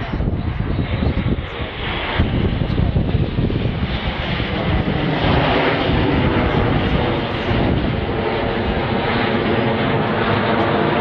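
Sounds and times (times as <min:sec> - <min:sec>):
jets flying overhead: 0:00.0 - 0:11.0.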